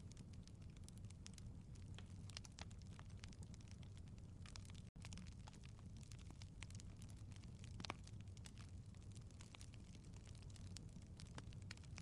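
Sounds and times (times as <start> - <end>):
low fire rumble: 0.0 - 12.0
wood fire crackling: 0.0 - 12.0.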